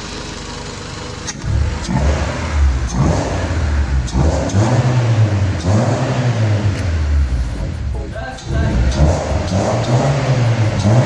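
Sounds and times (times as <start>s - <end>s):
engine revving: 0.9s - 11.0s.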